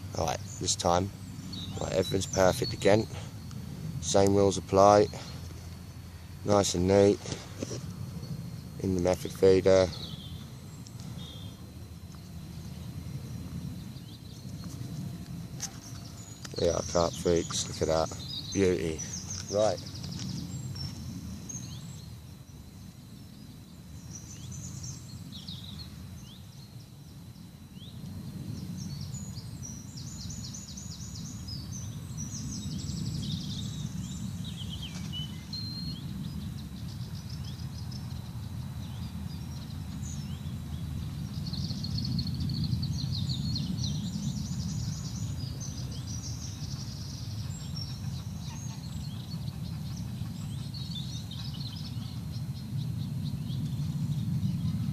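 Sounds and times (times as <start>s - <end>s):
songbirds trilling and chirping: 0.0s - 54.9s
steady low rumble: 0.0s - 54.9s.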